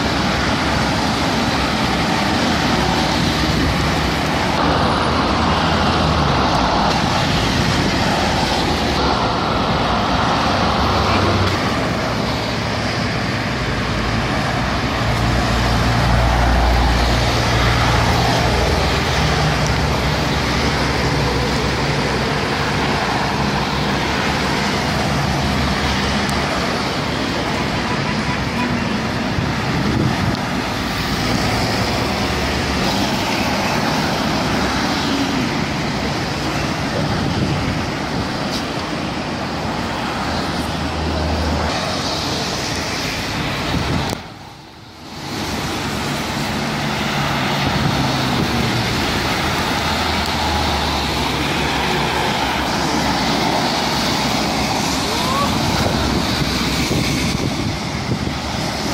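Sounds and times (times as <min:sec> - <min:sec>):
cars passing on wet road: 0:00.0 - 0:58.9.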